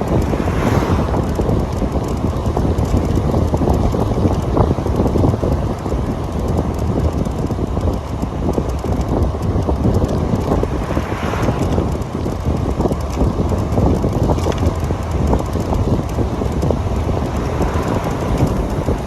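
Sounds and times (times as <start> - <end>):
road noise rumble: 0.0 - 19.0
wind buffeting microphone: 0.0 - 19.0.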